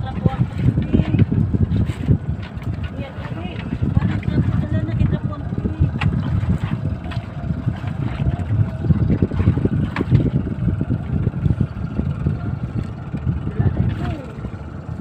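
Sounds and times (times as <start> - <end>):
boat engine humming: 0.0 - 15.0
wind rumble on microphone: 0.0 - 15.0.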